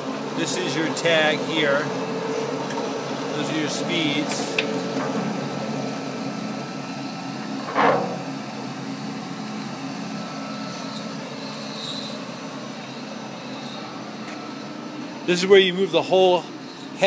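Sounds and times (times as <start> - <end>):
lathe humming: 0.0 - 17.0.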